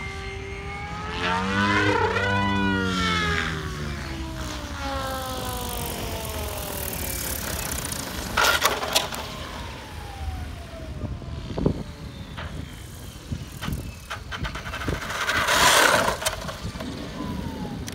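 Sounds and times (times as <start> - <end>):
rc helicopter motor and rotor whine: 0.0 - 17.9
rushing gusts of rotor noise: 0.0 - 17.9.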